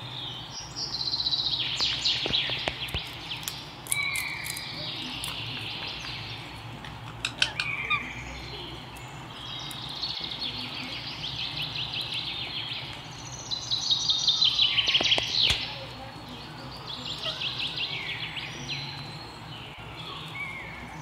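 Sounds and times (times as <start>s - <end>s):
bird chirping in trills: 0.0s - 21.0s
low background hum: 0.0s - 21.0s.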